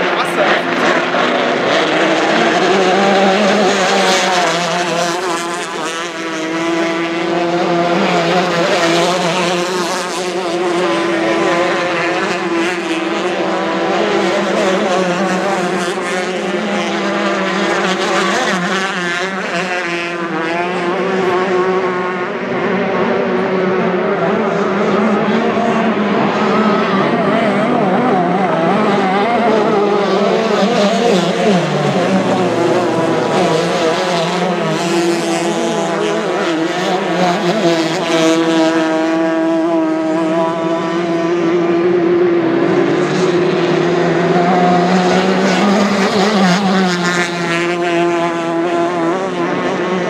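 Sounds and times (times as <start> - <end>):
boat outboard engines racing: 0.0 - 50.0.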